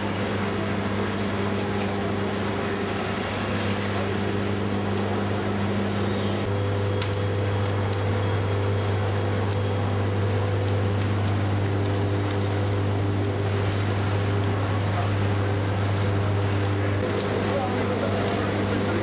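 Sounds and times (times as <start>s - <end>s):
factory machinery electrical drone: 0.0s - 19.0s.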